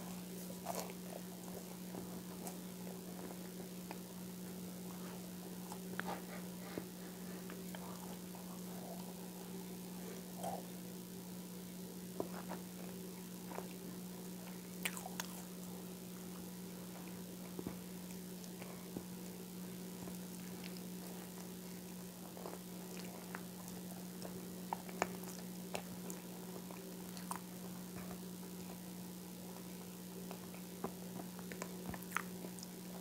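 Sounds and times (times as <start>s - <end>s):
chewing soft food: 0.0s - 33.0s.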